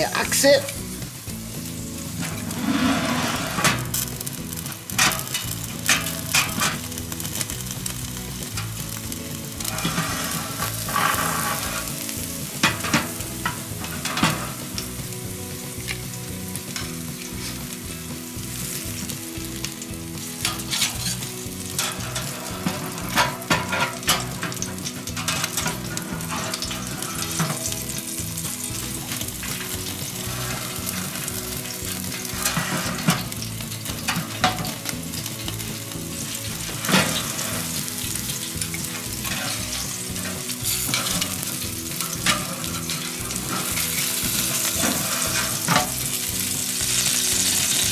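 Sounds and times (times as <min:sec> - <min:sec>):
fat crackling and popping: 0:00.0 - 0:47.9
steak sizzling: 0:00.0 - 0:47.9.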